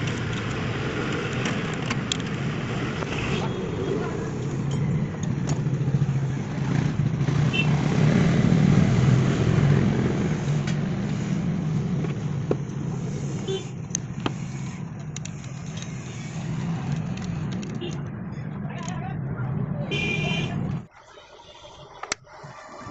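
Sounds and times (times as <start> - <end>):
truck engine humming: 0.0 - 22.9.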